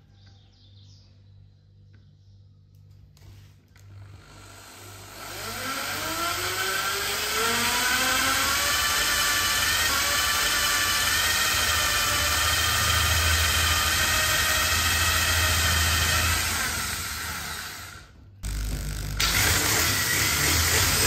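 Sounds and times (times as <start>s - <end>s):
electric drill motor whining: 3.8s - 21.0s.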